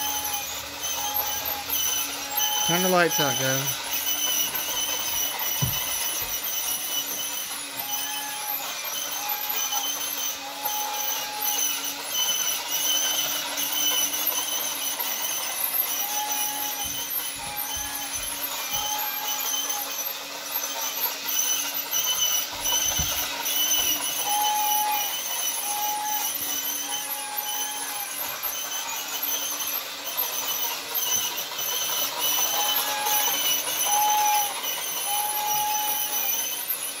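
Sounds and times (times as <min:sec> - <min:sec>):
toy train running noise: 0:00.0 - 0:37.0
toy train whistle blasts: 0:00.0 - 0:37.0.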